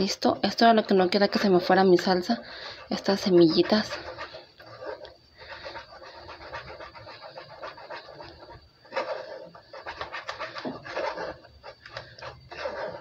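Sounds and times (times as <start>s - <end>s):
wooden spoon scraping sauce through strainer: 0.0s - 13.0s.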